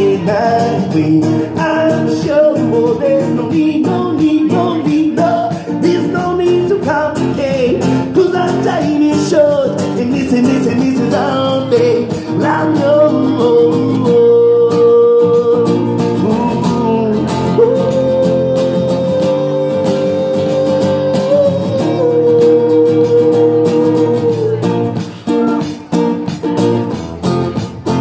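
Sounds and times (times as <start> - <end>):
guitar strumming: 0.0 - 28.0.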